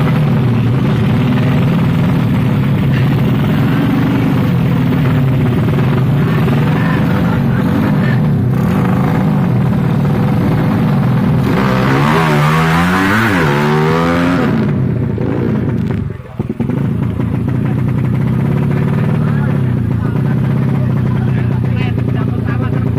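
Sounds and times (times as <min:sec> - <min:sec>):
motorcycles revving high: 0:00.0 - 0:22.9.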